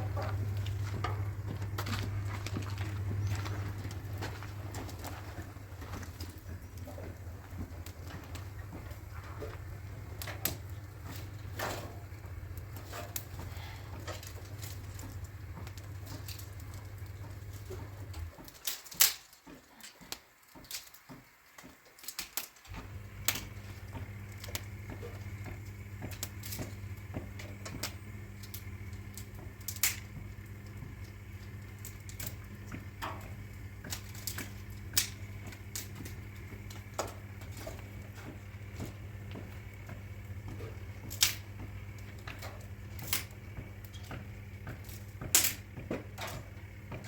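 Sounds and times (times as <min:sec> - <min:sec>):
low electric hum: 0:00.0 - 0:20.7, 0:21.4 - 0:47.0
sharp clicks and knocks: 0:00.0 - 0:47.0.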